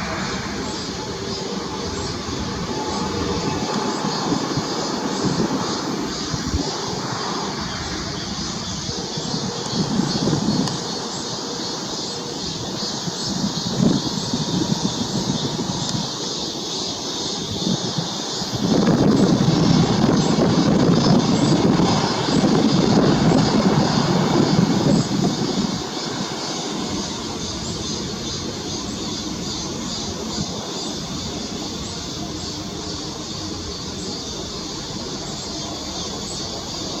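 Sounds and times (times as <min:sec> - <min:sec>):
jet engine roar and hiss: 0:00.0 - 0:37.0
jet engines rumbling: 0:00.0 - 0:37.0.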